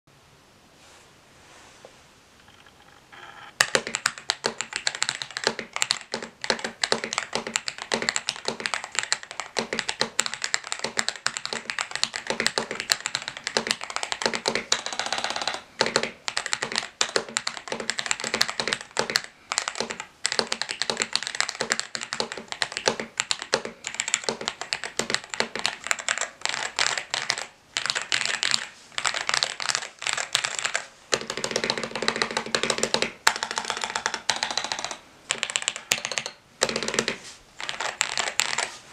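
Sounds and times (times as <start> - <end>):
mechanical keyboard typing: 2.4 - 38.7.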